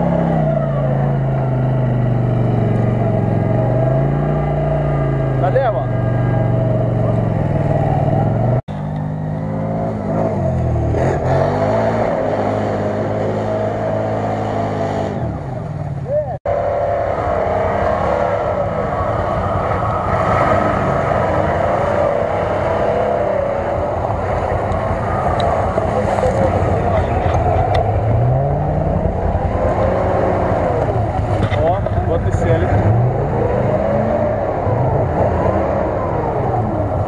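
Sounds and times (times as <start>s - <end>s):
off-road engines revving: 0.0s - 37.0s
rough engine running: 0.0s - 37.0s.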